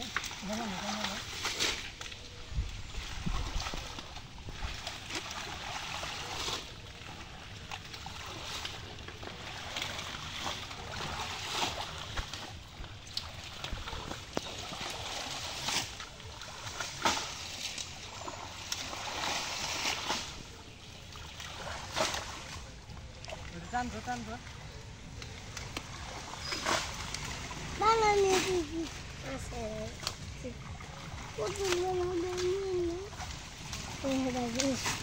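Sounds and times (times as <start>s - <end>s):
shallow water splashing: 0.0s - 35.0s.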